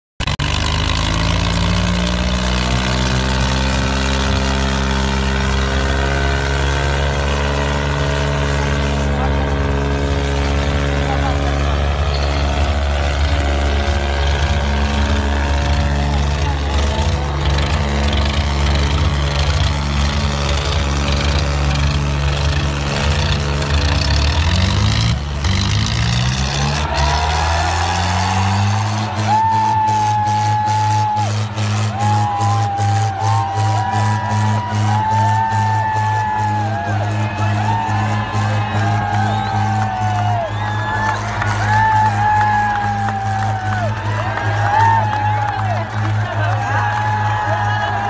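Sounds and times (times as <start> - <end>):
tractor engines under heavy load: 0.2 - 48.0.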